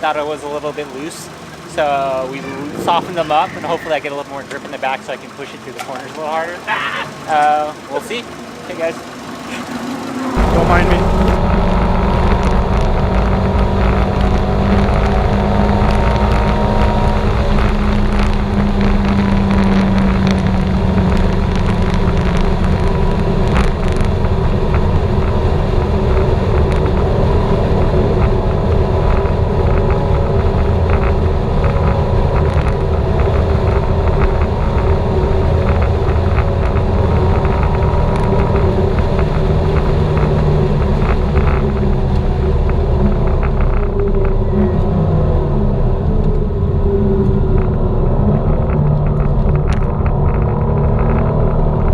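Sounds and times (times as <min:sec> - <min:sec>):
car engine running hard: 0:00.0 - 0:51.9.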